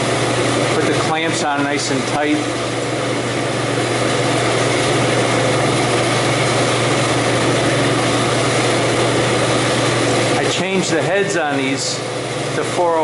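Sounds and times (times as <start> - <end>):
cooler fan air rush and hum: 0.0 - 13.0.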